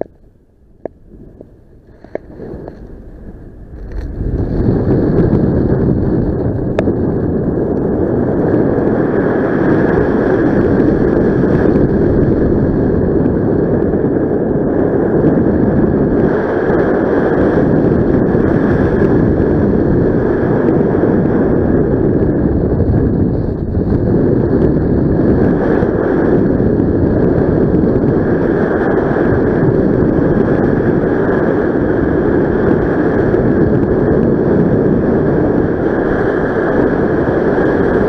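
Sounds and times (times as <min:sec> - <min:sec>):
wind noise on microphone: 0:00.0 - 0:38.0.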